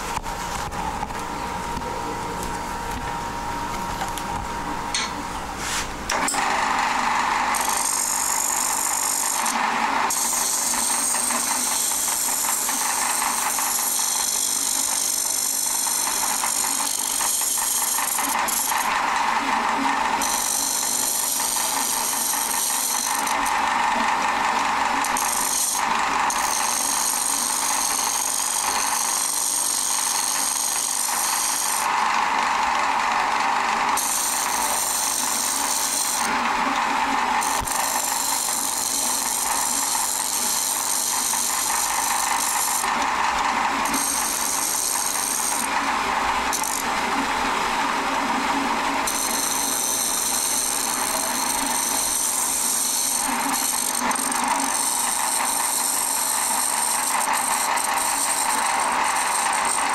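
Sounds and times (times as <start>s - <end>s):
gouge shaving wood on lathe: 6.1s - 59.9s.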